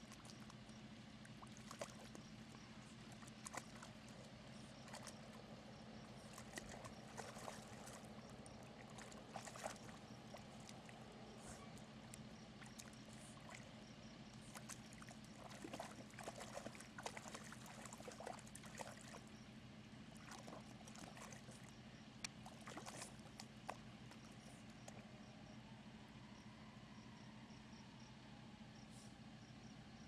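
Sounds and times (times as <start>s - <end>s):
puppy splashing in mud: 0.0s - 19.4s, 20.1s - 25.1s.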